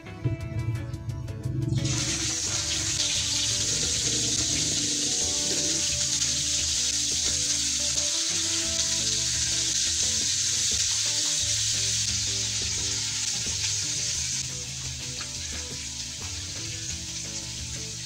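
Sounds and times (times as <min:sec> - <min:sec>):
meat sizzling in oil: 0:01.8 - 0:18.0.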